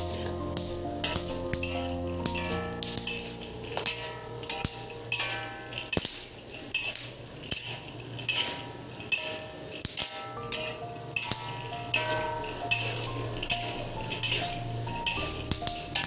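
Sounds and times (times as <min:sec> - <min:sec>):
metal spatula scraping wok: 0:00.1 - 0:09.8, 0:10.4 - 0:16.0.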